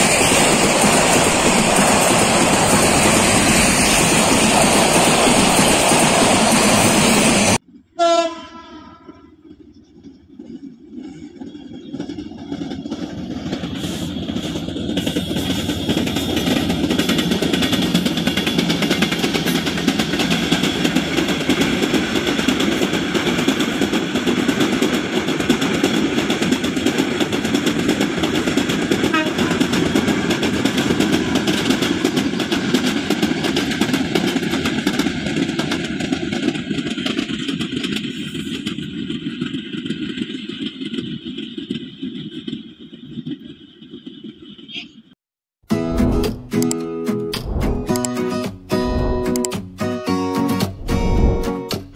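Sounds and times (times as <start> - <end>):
train rumbling past: 0.0 - 44.9, 45.8 - 51.9.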